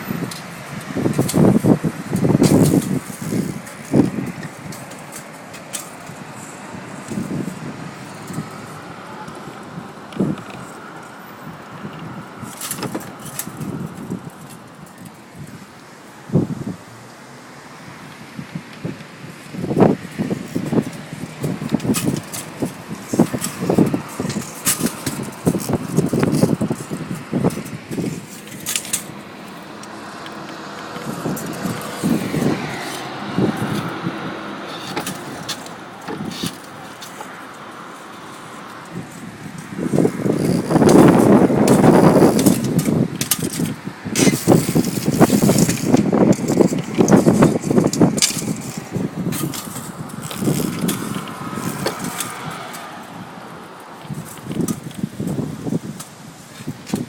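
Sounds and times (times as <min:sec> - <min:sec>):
wind buffeting microphone: 0:00.0 - 0:17.0, 0:17.8 - 0:57.0.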